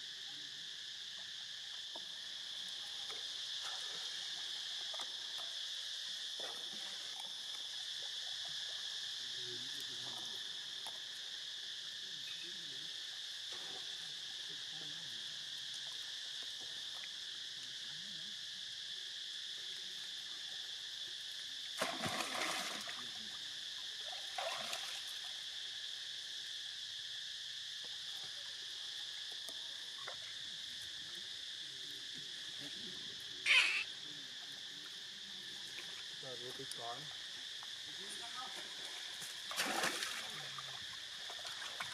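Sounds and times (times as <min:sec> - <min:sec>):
insect chorus drone: 0:00.0 - 0:41.9.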